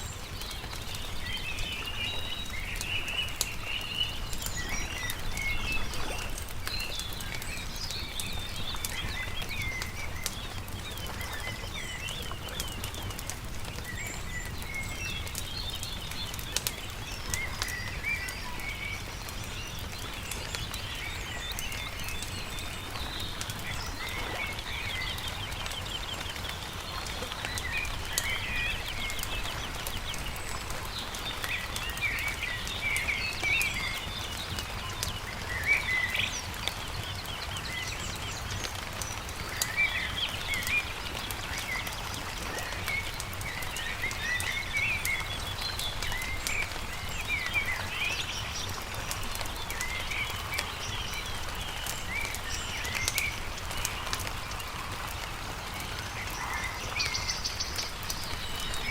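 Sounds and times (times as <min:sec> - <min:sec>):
campfire popping and crackling: 0:00.0 - 0:58.9
songbirds chirping and trilling: 0:00.0 - 0:58.9.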